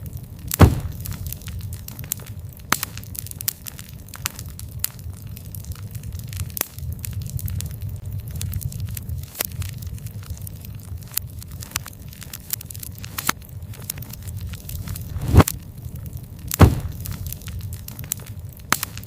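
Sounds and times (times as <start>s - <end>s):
campfire crackling: 0.0s - 19.0s
low rumble of burning: 0.0s - 19.0s
sharp pops and snaps: 0.4s - 19.0s.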